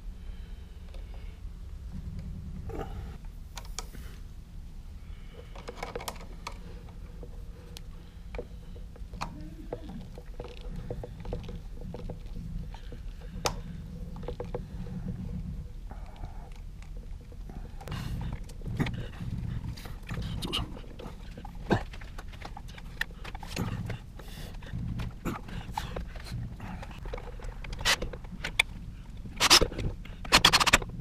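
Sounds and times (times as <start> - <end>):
low steady rumble: 0.0 - 31.0.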